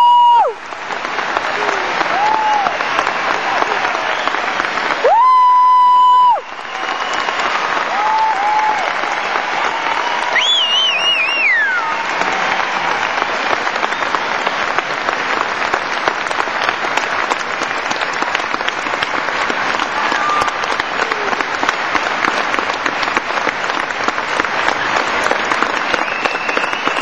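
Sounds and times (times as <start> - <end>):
audience applauding: 0.0 - 27.0.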